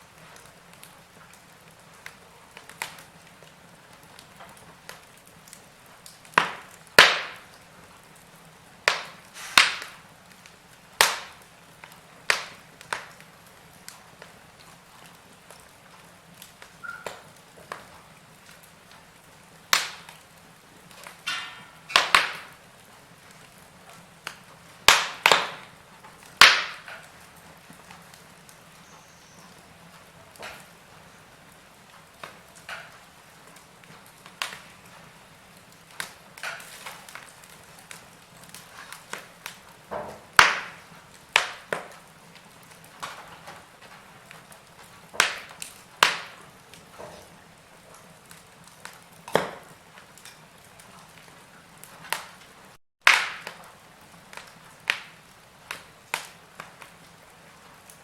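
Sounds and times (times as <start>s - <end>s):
faint steady hiss: 0.0s - 52.8s
wood fire crackling and popping: 0.0s - 58.0s.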